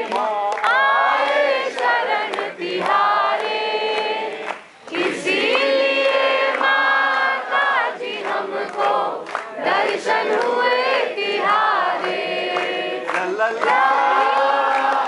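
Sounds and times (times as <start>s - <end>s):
group singing devotional song: 0.0s - 15.0s.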